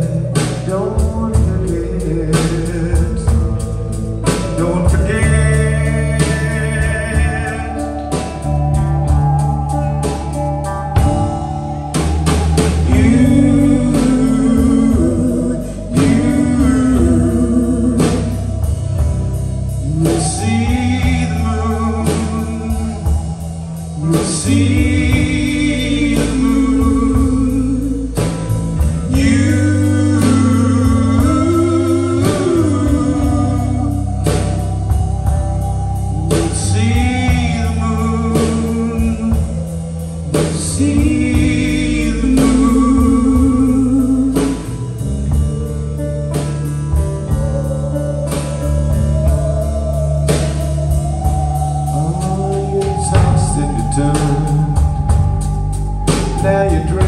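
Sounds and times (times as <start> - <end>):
bass: 0.0 - 57.0
drum kit: 0.0 - 57.0
guitars: 0.0 - 57.0
wavering melody line: 4.0 - 57.0.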